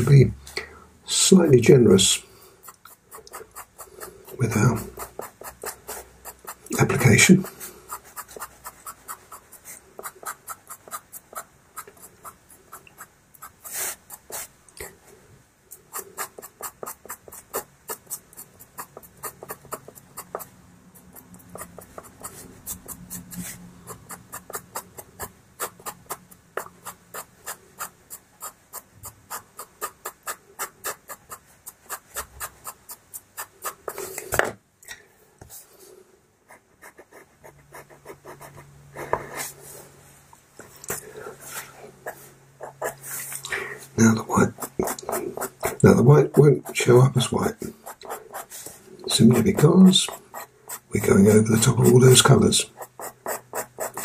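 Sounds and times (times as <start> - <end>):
pencil scratching on paper: 2.6 - 14.6, 15.7 - 34.4, 36.5 - 39.6, 41.4 - 43.4, 44.0 - 54.0.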